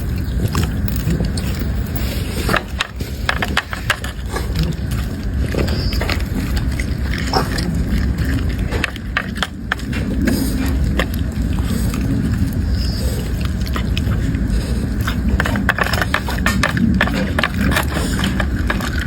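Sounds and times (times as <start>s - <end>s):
dog crunching food: 0.0s - 19.0s
steady low rumble: 0.0s - 19.0s.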